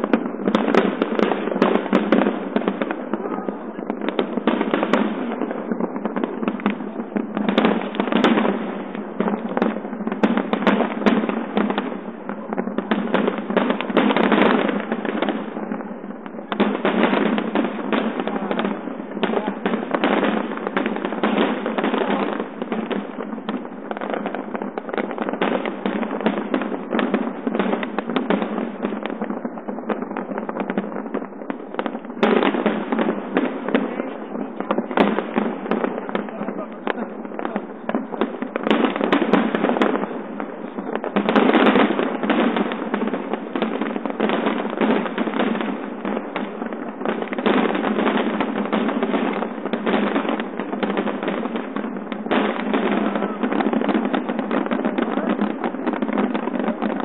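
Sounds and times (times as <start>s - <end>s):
fireworks bursts and crackling: 0.0s - 57.0s.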